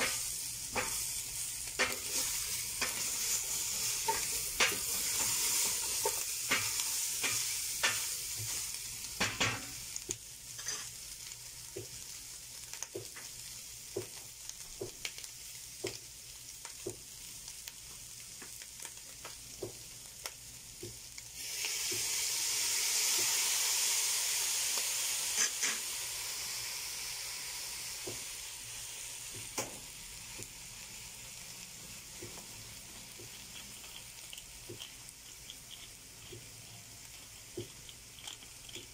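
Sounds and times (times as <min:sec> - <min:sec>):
meat sizzling in a pot: 0:00.0 - 0:38.9.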